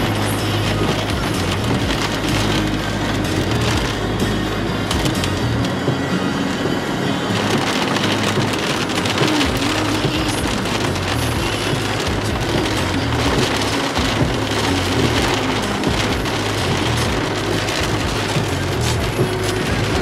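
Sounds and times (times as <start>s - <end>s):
car rumbling on wet road: 0.0s - 20.0s
rain pattering on car: 0.0s - 20.0s.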